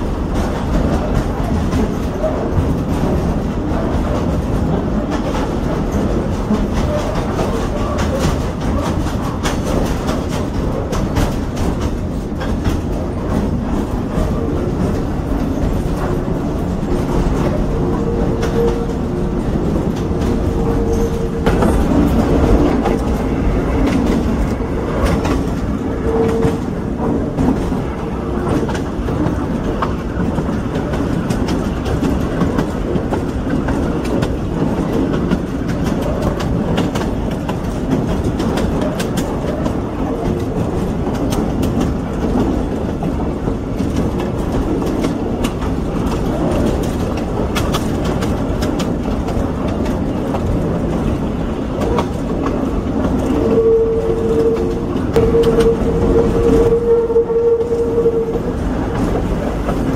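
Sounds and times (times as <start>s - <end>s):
train carriage rumbling and rattling: 0.0s - 59.9s
wheels clacking over rail joints: 0.0s - 59.9s.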